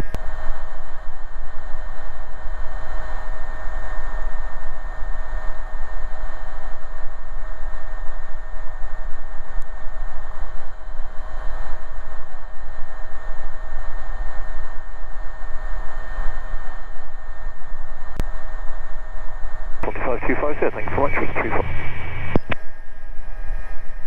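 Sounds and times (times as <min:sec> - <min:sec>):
constant whine: 0:00.0 - 0:24.0
helicopter rotor and engine drone: 0:00.0 - 0:24.0.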